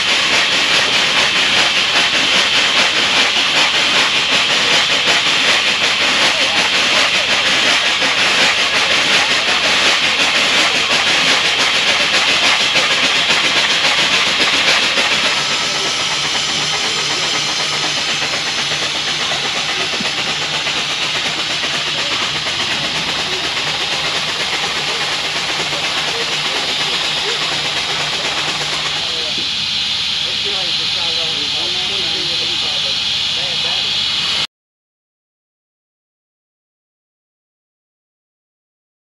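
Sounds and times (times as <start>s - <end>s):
steam hissing from locomotive: 0.0s - 34.5s.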